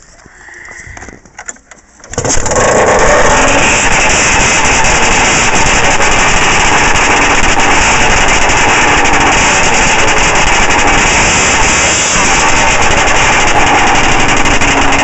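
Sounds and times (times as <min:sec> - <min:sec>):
loud snowmobile engine running: 0:02.1 - 0:15.0.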